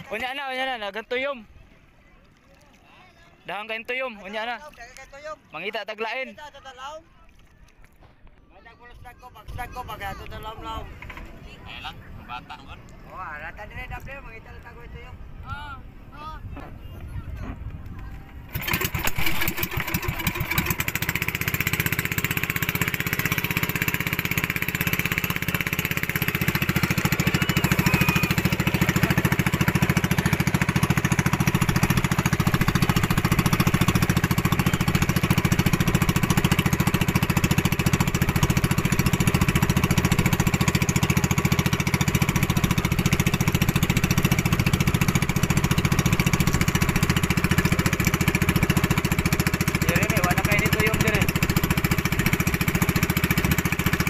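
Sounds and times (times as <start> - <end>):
boat engine running: 9.4 - 54.0.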